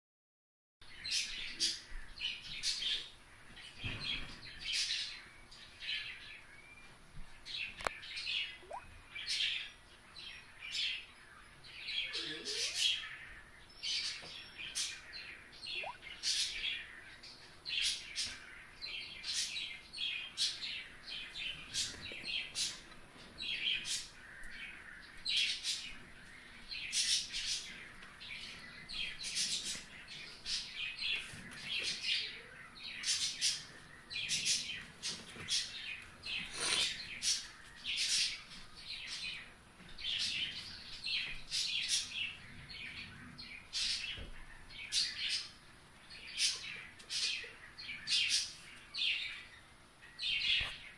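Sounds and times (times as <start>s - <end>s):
bird chirping: 0.8s - 50.9s.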